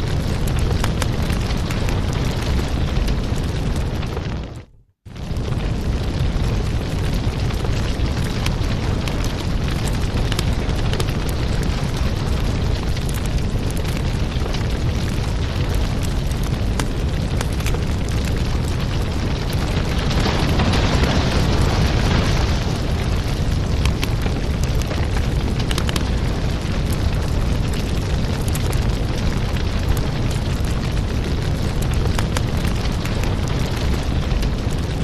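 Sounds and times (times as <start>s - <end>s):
fire low roar: 0.0s - 35.0s
wood fire crackling and popping: 0.0s - 35.0s.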